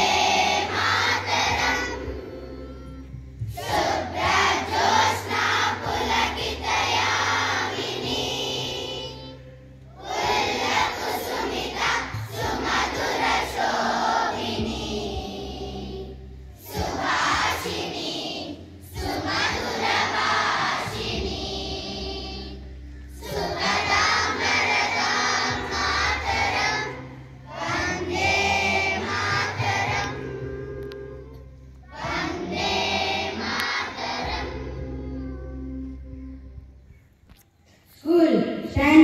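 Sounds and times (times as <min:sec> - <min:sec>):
children singing in unison: 0:00.0 - 0:36.2.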